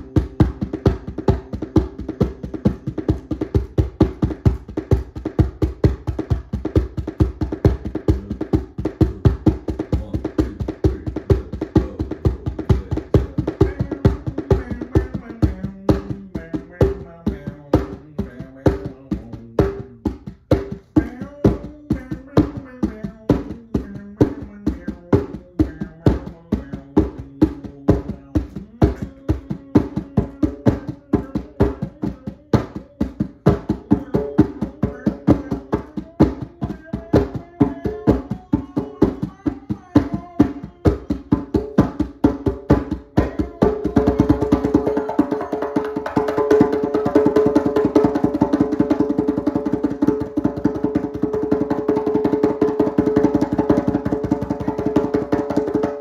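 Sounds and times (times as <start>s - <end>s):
djembe played with hands: 0.0s - 56.0s.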